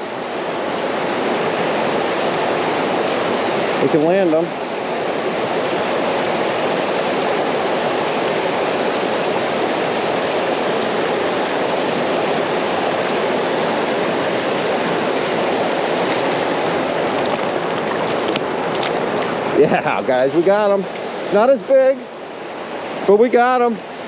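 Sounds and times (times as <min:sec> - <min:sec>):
creek water rushing over rocks: 0:00.0 - 0:24.0.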